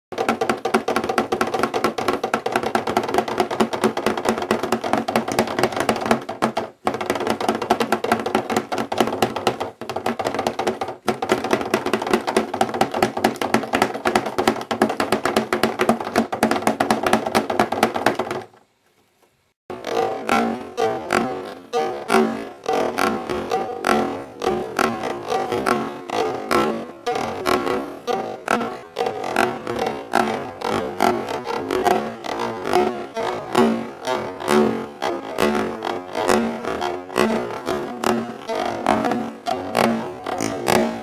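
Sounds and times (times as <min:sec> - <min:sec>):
fingers drumming on cardboard: 0:00.1 - 0:18.6, 0:19.7 - 0:41.0.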